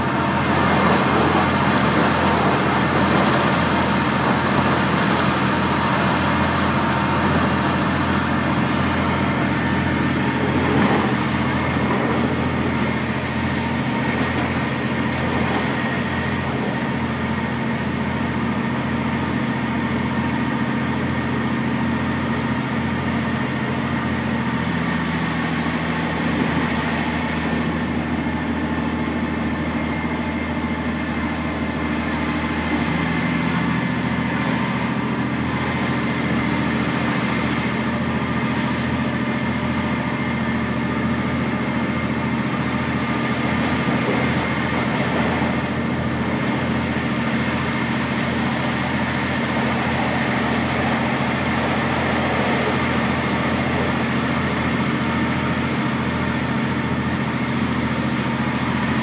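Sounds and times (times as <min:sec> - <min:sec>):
railcar engine droning: 0:00.0 - 0:59.0.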